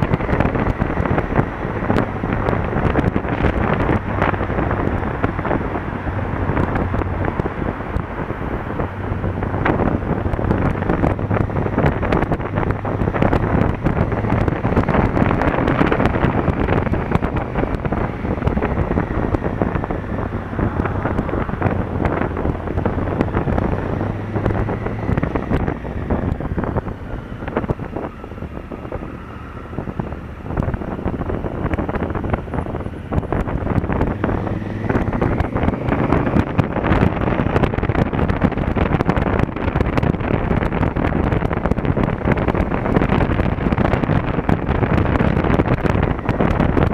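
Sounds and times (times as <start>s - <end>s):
motorcycle engine humming: 0.0s - 46.9s
wind rushing over microphone: 0.0s - 46.9s.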